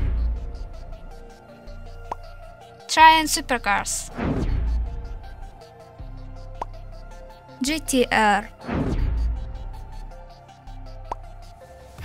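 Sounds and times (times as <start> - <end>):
background music with low bass: 0.0 - 12.0.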